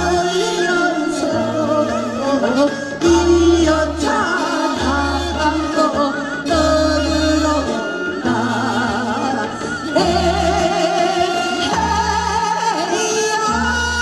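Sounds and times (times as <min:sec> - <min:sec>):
amplified instrumental accompaniment: 0:00.0 - 0:14.0
women singing with vibrato: 0:00.0 - 0:14.0.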